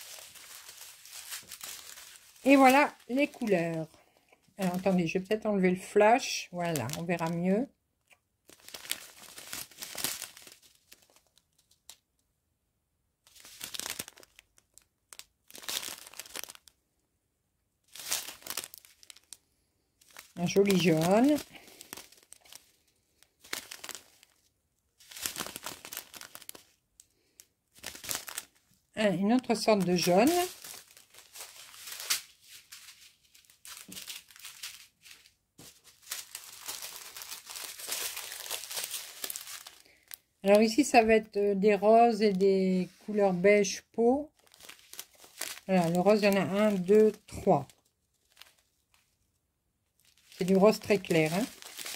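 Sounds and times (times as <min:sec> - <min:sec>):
plastic bags crinkling: 0:00.0 - 0:07.7, 0:08.4 - 0:12.0, 0:13.3 - 0:16.8, 0:17.9 - 0:43.2, 0:44.2 - 0:49.2, 0:50.0 - 0:51.9.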